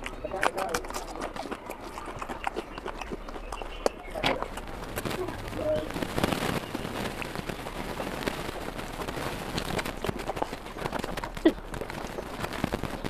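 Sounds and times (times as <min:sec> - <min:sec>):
open-mouthed chewing: 0:00.0 - 0:13.0.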